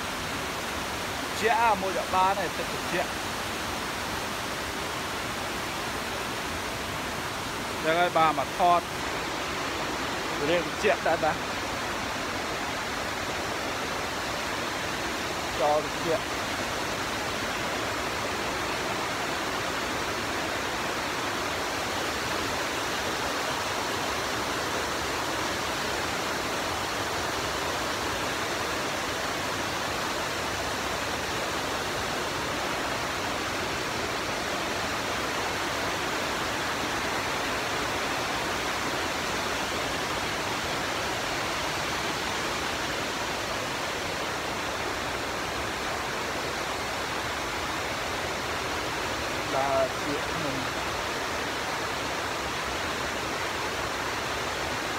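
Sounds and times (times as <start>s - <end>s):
waterfall roaring over rocks: 0.0s - 54.9s.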